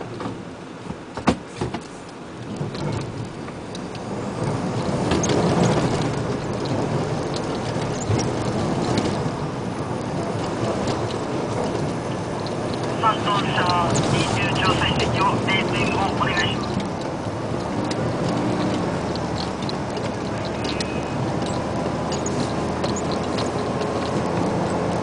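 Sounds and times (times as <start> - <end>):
truck engine and tyres rumbling: 0.0 - 25.0
gravel crackling: 2.4 - 25.0.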